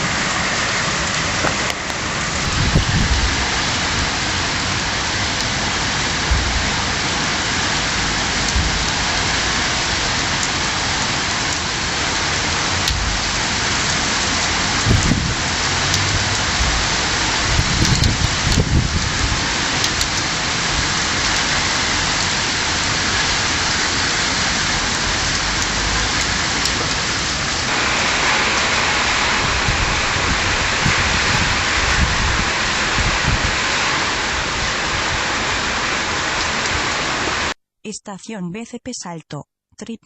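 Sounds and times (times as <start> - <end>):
heavy rain pouring: 0.0 - 37.6.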